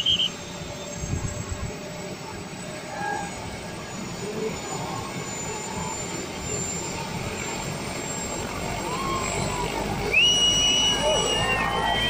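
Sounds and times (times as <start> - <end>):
faint high turbine whine: 0.0 - 12.0
helicopter rotor rushing: 0.0 - 12.0.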